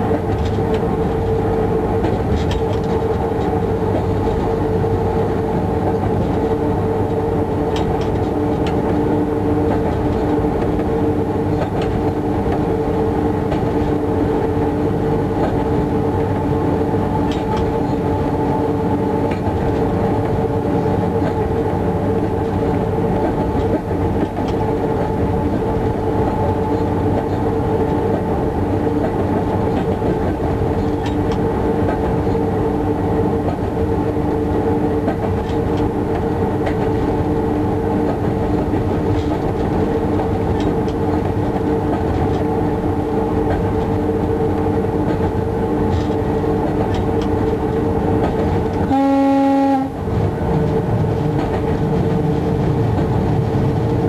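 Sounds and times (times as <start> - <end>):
wheels rumbling on rails: 0.0 - 54.0.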